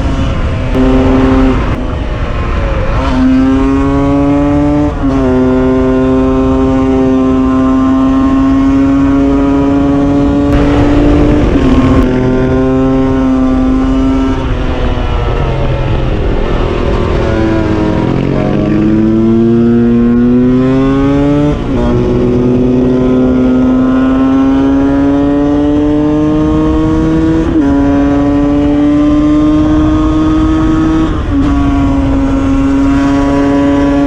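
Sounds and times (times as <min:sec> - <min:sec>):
motorcycle engine revving: 0:00.2 - 0:01.9, 0:02.8 - 0:34.0.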